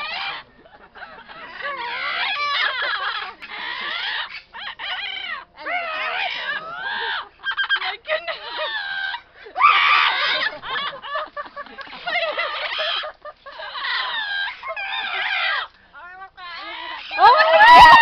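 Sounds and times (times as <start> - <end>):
parrots squawking and chattering: 0.0 - 18.0.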